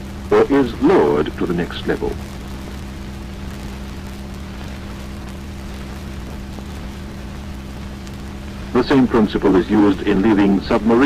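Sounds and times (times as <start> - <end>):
film soundtrack hiss: 0.0 - 11.0
steady low hum: 0.0 - 11.0.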